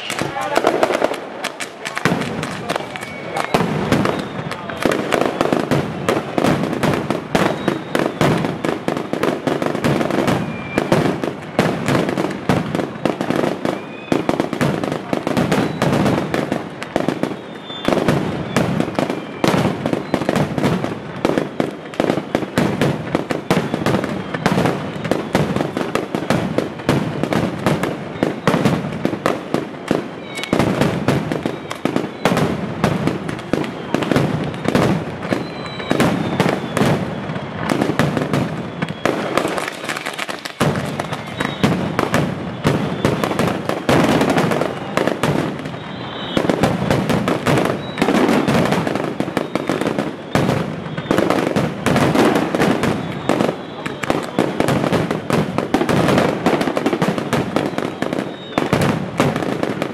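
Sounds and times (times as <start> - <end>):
firecrackers bursting: 0.0 - 59.9.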